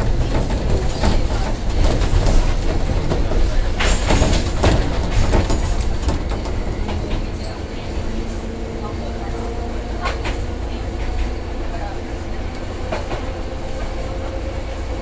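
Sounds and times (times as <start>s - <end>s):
tram rumble: 0.0s - 15.0s
wheels clicking on rails: 0.0s - 15.0s.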